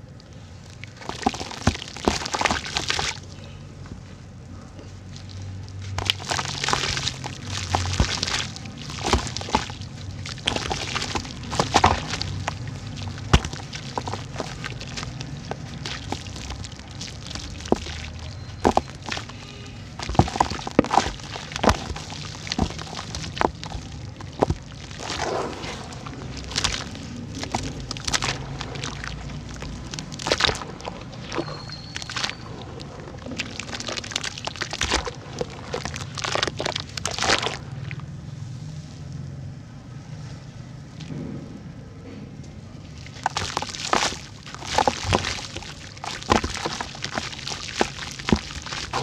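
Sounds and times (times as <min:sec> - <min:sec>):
dirt chunks cracking in water: 0:00.0 - 0:04.1, 0:04.8 - 0:38.2, 0:40.9 - 0:41.6, 0:42.8 - 0:49.0
crumbling and trickling: 0:00.0 - 0:38.2, 0:40.2 - 0:49.0.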